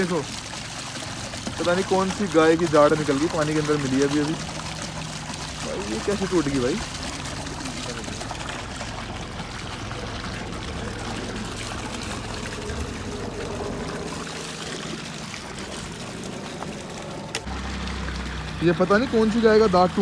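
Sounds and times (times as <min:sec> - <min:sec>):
water pouring into trough: 0:00.0 - 0:20.0.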